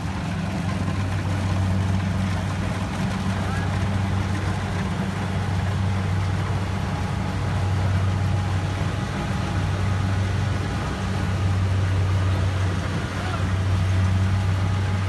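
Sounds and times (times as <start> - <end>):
harvester engine droning: 0.0 - 15.0.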